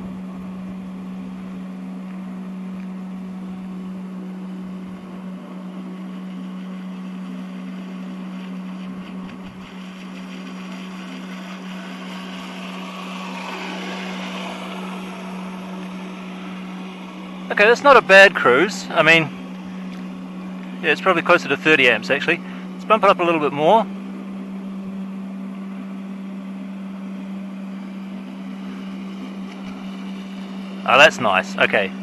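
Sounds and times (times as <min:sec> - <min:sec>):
model boat electric motor hum: 0:00.0 - 0:32.0
water and wind hiss: 0:00.0 - 0:32.0.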